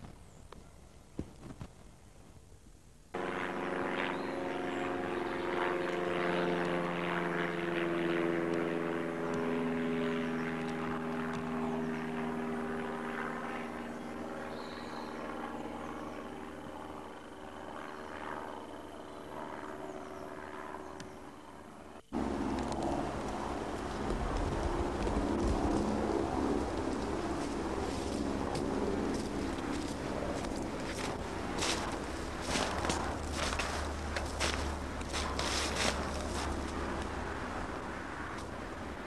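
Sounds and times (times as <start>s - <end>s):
propeller aircraft engines droning: 0.0s - 39.0s.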